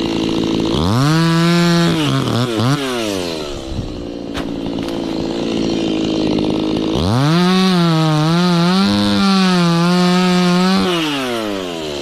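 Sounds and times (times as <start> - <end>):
chainsaw revving and cutting wood: 0.0 - 12.0.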